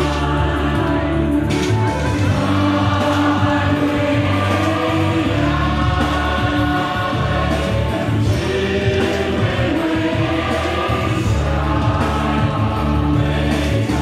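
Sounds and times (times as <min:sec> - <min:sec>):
choir singing: 0:00.0 - 0:14.0
instrumental accompaniment: 0:00.0 - 0:14.0.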